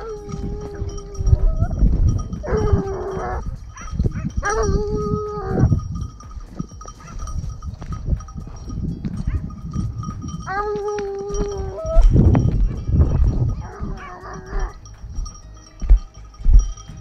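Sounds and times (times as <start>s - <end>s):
faint bell-like ringing: 0.0s - 17.0s
hunting dogs baying: 0.0s - 17.0s
wind rumbling on microphone: 0.0s - 17.0s.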